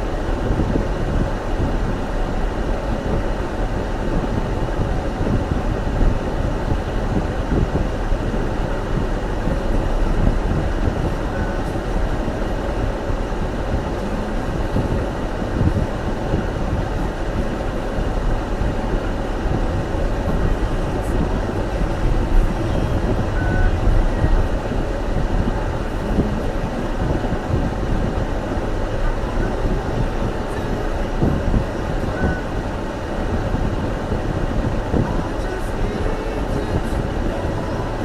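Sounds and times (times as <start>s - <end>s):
car driving on snowy road: 0.0s - 38.0s.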